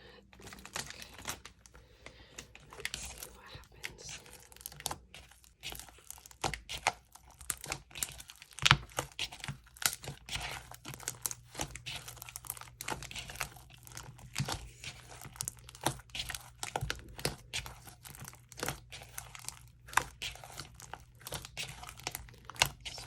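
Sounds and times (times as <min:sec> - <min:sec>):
slime squishing and popping: 0:04.5 - 0:23.0.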